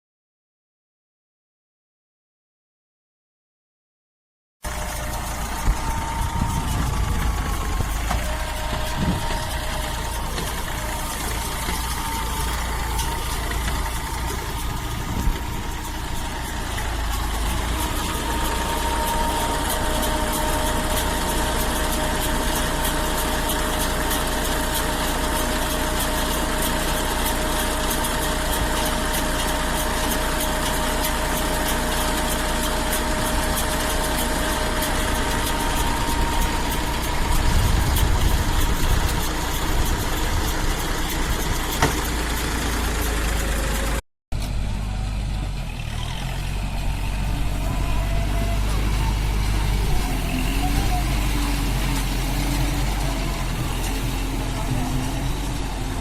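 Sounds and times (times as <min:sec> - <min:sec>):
engine running steadily: 0:04.6 - 0:56.0
steady machine whine: 0:04.6 - 0:56.0.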